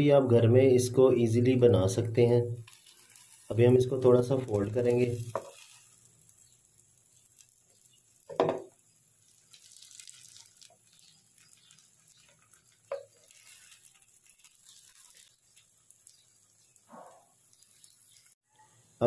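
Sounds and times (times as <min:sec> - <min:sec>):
omelette frying in oil: 0:01.4 - 0:19.0.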